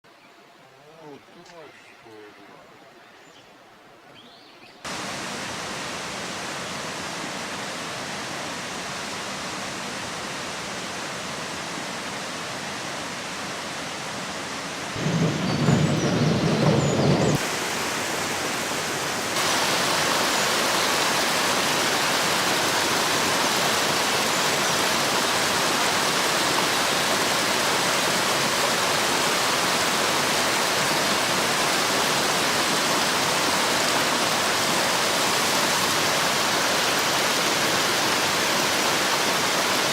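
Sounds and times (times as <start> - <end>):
waterfall rushing: 4.9 - 39.9.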